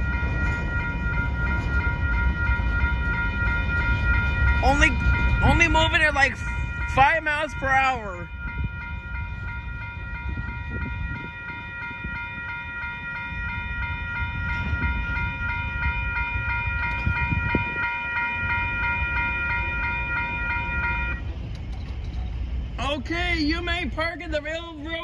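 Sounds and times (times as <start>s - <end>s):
crossing bell ringing: 0.0s - 25.0s
train rumbling: 0.0s - 25.0s.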